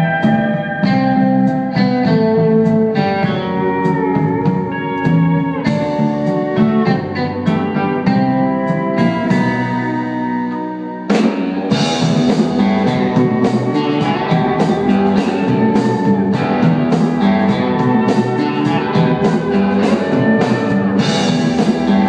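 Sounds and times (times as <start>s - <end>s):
bass: 0.0s - 22.0s
electric guitar: 0.0s - 22.0s
pedal steel guitar: 0.0s - 22.0s.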